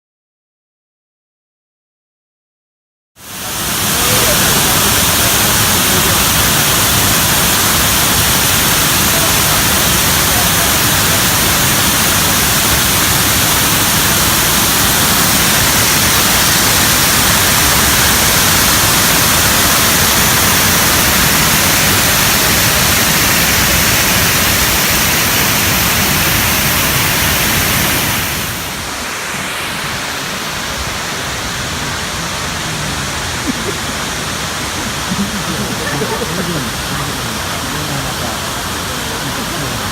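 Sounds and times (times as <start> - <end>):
waterfall rushing: 3.2 - 39.9.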